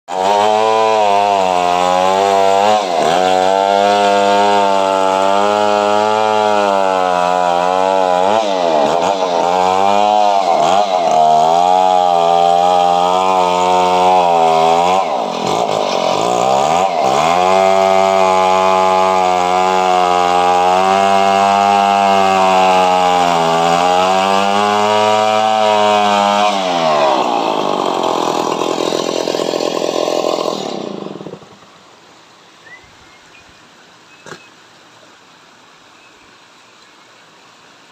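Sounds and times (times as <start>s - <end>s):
chainsaw cutting tree trunk: 0.1s - 31.7s.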